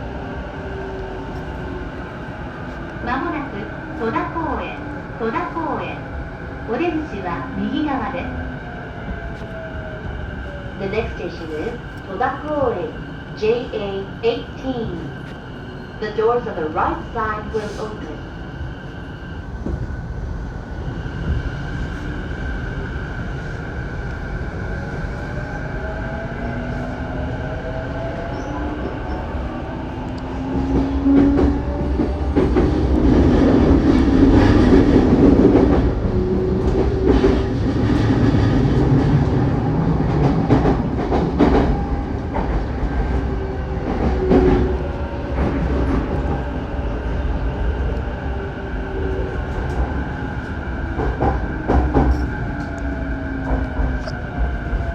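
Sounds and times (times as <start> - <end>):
train interior rumble: 0.0 - 54.9.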